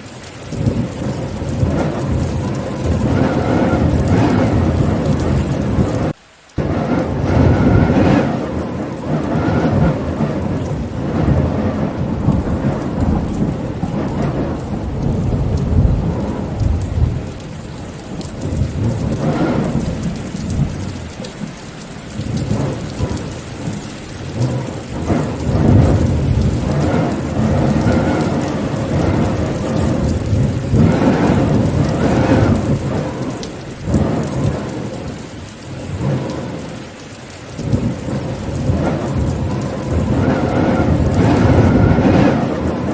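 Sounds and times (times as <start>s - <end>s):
heavy rain pattering: 0.0s - 42.9s
low thunder rolling: 0.0s - 42.9s.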